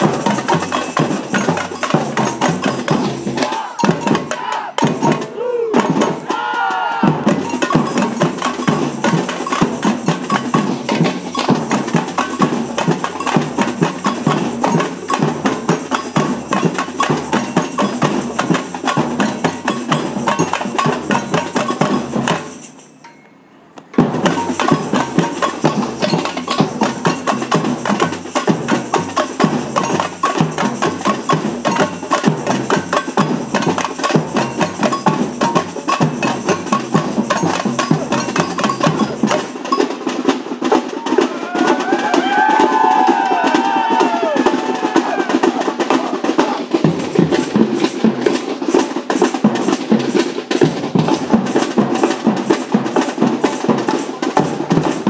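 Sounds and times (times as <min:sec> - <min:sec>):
samba percussion band: 0:00.0 - 0:23.0, 0:24.0 - 0:55.0.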